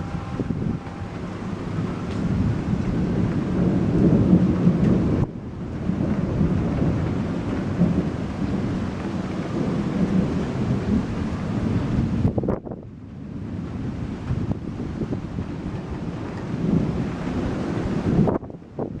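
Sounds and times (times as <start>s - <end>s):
rain hissing: 0.0s - 19.0s
thunder rumbling: 0.0s - 19.0s.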